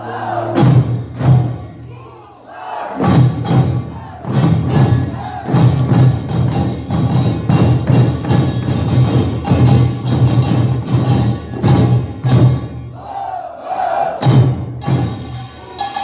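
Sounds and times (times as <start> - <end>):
percussion band gongs and drums: 0.4 - 1.9, 3.0 - 13.3, 14.1 - 16.0.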